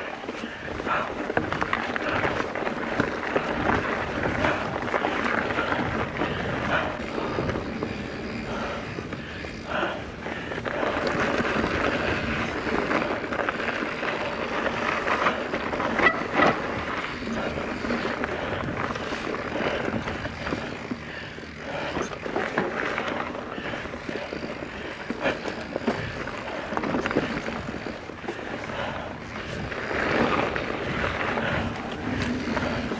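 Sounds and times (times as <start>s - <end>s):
bike tyre and wind rush: 0.0s - 32.9s
bike knocks and rattles: 0.3s - 9.9s, 10.5s - 32.9s.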